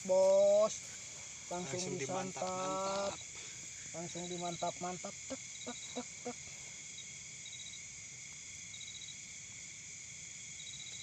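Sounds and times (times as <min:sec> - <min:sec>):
cricket pulsed trill: 0:00.0 - 0:11.0
crickets chirping: 0:00.0 - 0:11.0.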